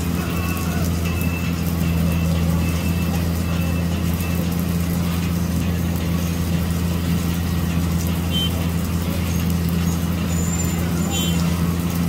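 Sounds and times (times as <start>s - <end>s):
diesel engine low drone: 0.0s - 12.0s.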